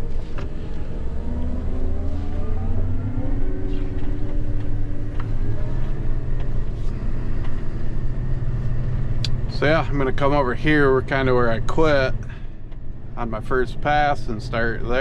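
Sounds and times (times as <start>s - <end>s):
combine harvester engine drone: 0.0s - 15.0s
rising machine whine: 0.0s - 15.0s.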